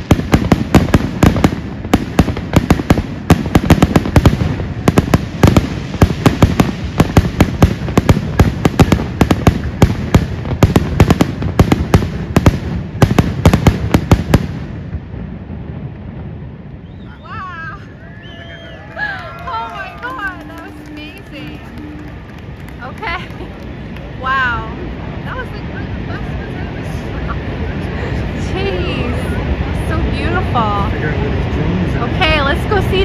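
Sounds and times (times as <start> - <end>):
fireworks exploding: 0.0 - 33.0
low rumble: 0.0 - 33.0.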